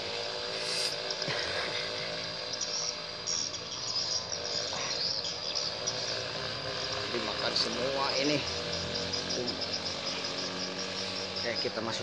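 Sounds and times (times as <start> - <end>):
insects chirping: 0.0 - 12.0
mechanical hum: 0.0 - 12.0.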